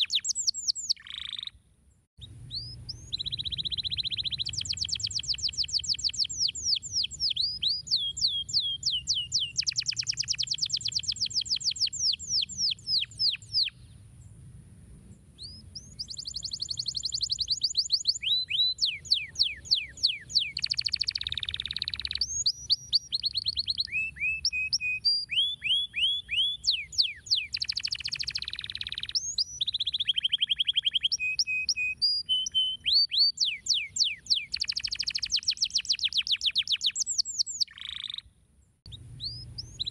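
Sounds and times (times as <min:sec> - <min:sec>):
canary singing: 0:00.0 - 0:01.6, 0:02.2 - 0:13.8, 0:15.4 - 0:38.3, 0:38.9 - 0:39.9.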